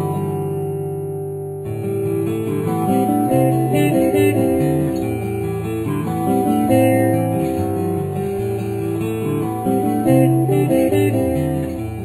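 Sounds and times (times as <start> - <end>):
guitar piece: 0.0 - 12.0.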